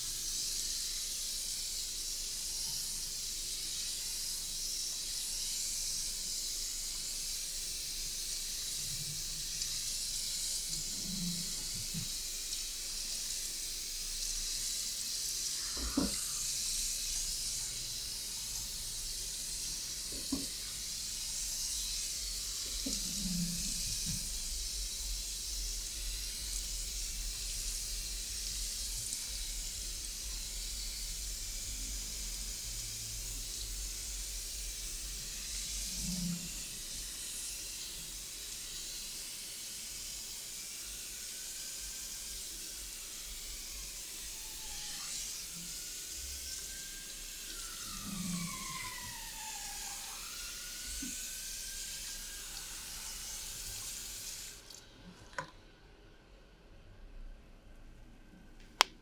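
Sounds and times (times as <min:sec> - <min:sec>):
shower water running: 0:00.0 - 0:55.5.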